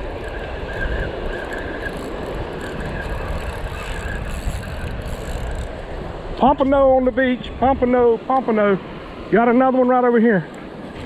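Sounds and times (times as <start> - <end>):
wind buffeting microphone: 0.0 - 9.4
surf washing on beach: 0.0 - 11.0.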